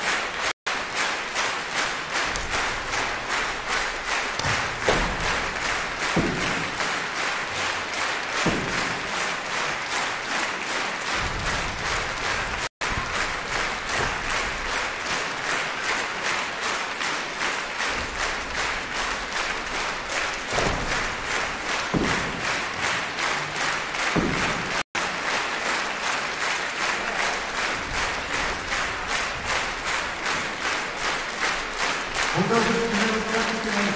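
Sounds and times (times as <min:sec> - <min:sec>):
audience clapping in rhythm: 0:00.0 - 0:33.9.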